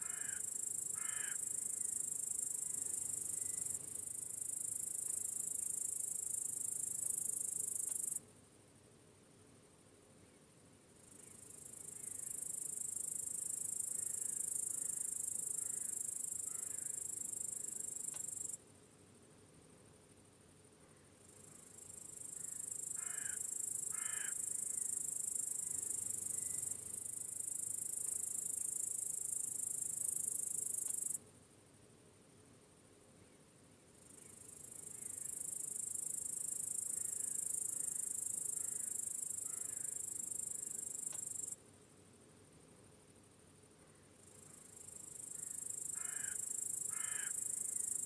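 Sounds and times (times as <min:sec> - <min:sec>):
crickets chirping: 0:00.0 - 0:08.6, 0:10.9 - 0:18.6, 0:19.5 - 0:31.9, 0:32.5 - 0:48.0.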